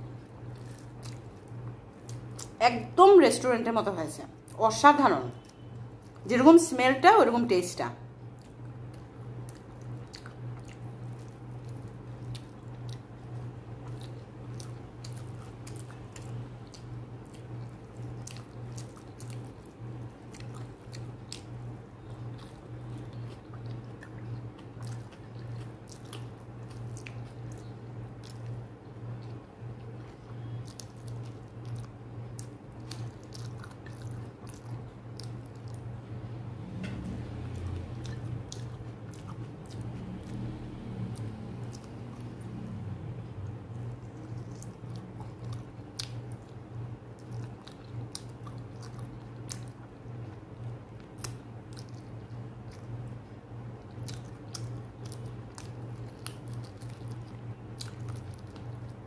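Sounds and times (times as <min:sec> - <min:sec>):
steady low hum: 0:00.0 - 0:59.0
wet chewing and mouth clicks: 0:00.1 - 0:02.6, 0:08.3 - 0:36.0, 0:37.0 - 0:59.0.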